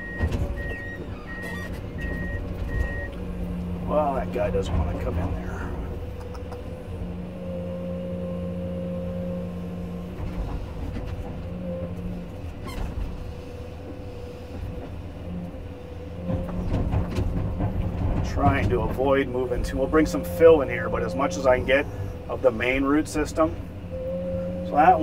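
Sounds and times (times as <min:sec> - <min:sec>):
excavator engine and hydraulics: 0:00.0 - 0:25.0.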